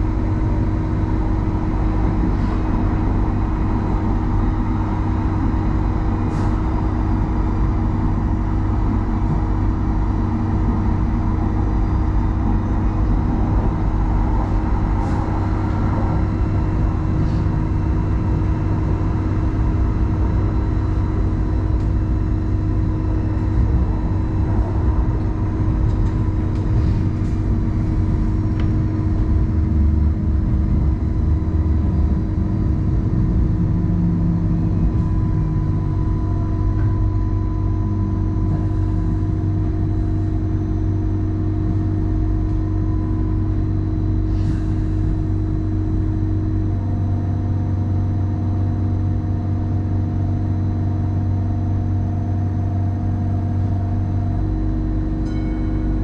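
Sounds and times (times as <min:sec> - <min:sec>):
electrical hum: 0:00.0 - 0:56.0
train wheels rumbling on track: 0:00.0 - 0:56.0.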